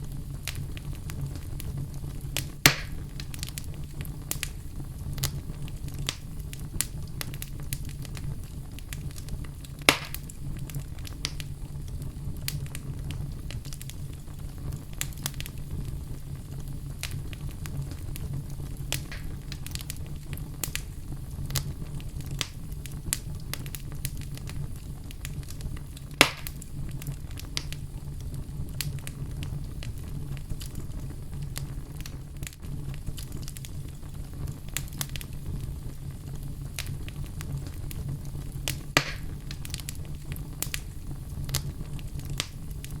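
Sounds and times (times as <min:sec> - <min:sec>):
campfire crackling: 0:00.0 - 0:43.0
loud campfire pops: 0:00.0 - 0:43.0.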